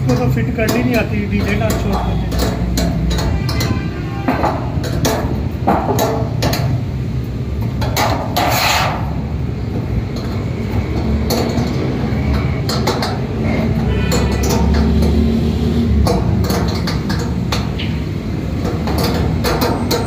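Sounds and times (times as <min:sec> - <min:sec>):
metal rods clinking and knocking: 0:00.0 - 0:06.8, 0:09.7 - 0:15.3, 0:15.9 - 0:20.0.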